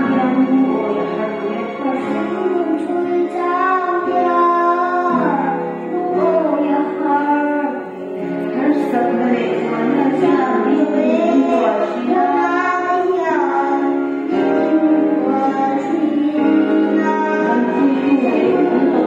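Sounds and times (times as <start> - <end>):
girl singing: 0.0 - 7.9, 8.5 - 19.0
instrumental accompaniment: 0.0 - 19.0.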